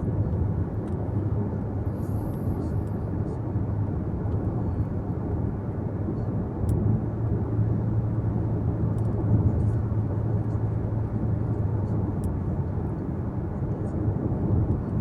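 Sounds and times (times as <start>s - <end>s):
car engine and tyres on road: 0.0s - 15.0s.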